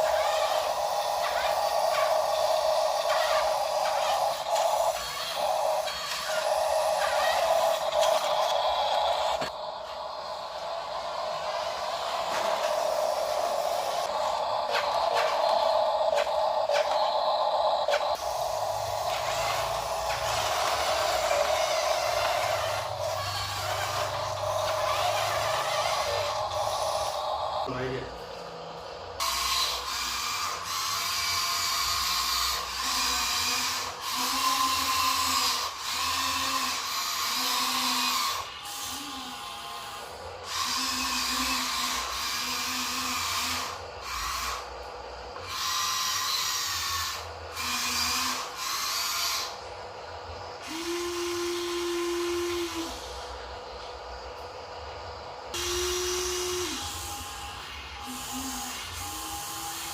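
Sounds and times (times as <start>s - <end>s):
small electric motors whining: 0.0s - 59.9s
smooth steady motor hum: 0.0s - 59.9s.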